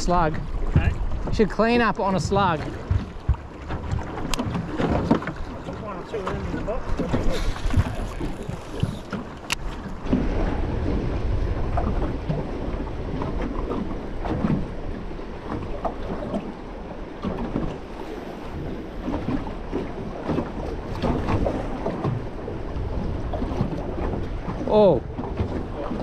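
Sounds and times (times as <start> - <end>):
water slapping against boat hull: 0.0 - 26.0
wind buffeting microphone: 0.0 - 26.0.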